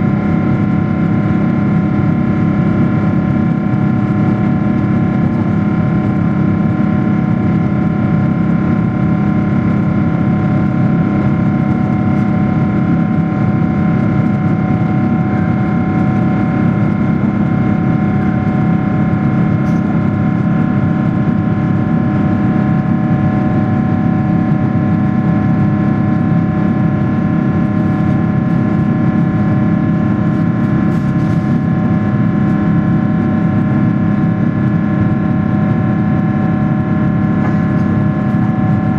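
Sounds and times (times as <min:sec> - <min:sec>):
jet engines droning: 0:00.0 - 0:38.9
rumble of airflow: 0:00.0 - 0:38.9.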